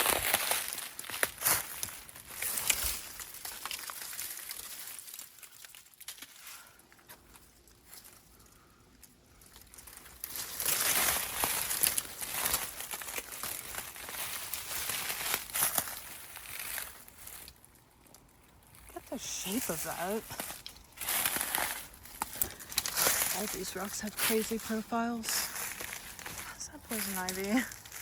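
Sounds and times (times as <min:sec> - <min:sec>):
footsteps crunching on dry leaves: 0:00.0 - 0:08.2, 0:09.6 - 0:17.8, 0:18.8 - 0:28.0
crinkling and clicks: 0:00.0 - 0:28.0.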